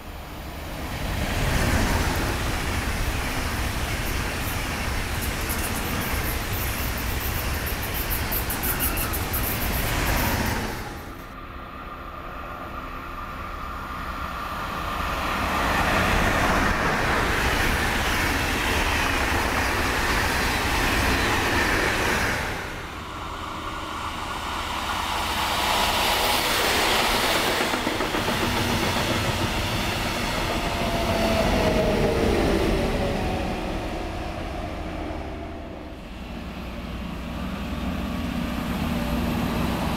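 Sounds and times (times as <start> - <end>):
train wheels on rails: 0.0 - 11.4, 12.6 - 39.9.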